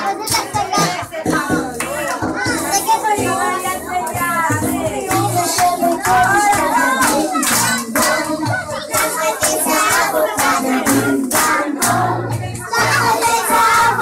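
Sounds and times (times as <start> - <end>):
song with singing over a beat: 0.0 - 14.0.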